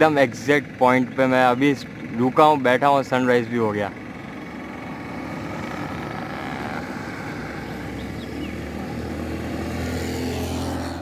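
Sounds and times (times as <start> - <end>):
motor engine low hum: 0.0 - 11.0
outdoor background noise: 0.0 - 11.0.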